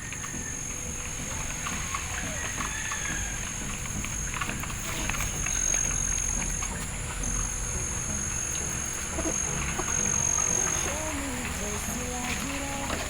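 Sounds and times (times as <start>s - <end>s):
high-pitched insect drone: 0.0s - 12.9s.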